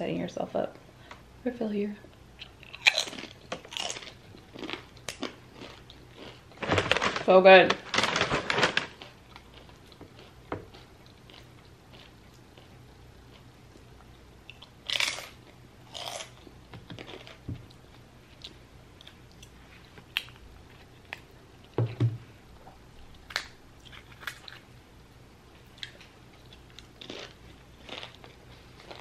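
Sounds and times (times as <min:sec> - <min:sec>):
person chewing and crunching food: 0:02.1 - 0:07.2, 0:07.9 - 0:22.0, 0:22.6 - 0:24.8, 0:25.5 - 0:29.0.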